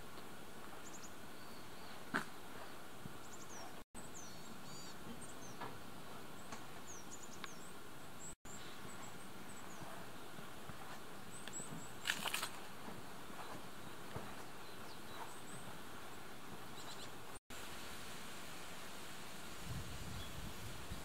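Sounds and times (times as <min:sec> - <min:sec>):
small birds chirping: 0:00.0 - 0:17.4
steady outdoor hiss: 0:00.0 - 0:21.0.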